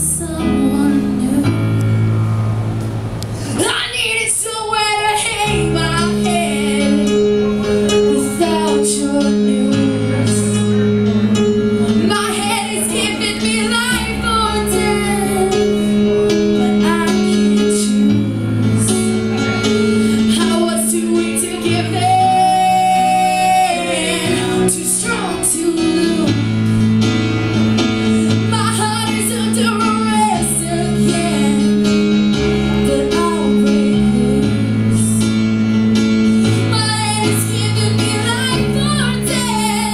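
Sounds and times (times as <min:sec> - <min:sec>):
woman singing: 0:00.0 - 0:01.8, 0:03.6 - 0:07.3, 0:08.0 - 0:10.6, 0:11.9 - 0:19.1, 0:20.2 - 0:26.6, 0:28.3 - 0:35.4, 0:36.5 - 0:39.9
steady bass line: 0:00.0 - 0:03.7, 0:05.4 - 0:39.9.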